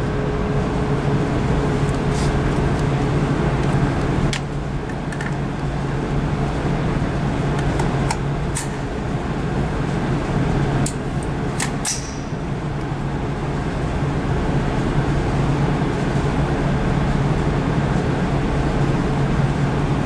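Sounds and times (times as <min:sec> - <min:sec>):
ventilation rushing hum: 0:00.0 - 0:20.0.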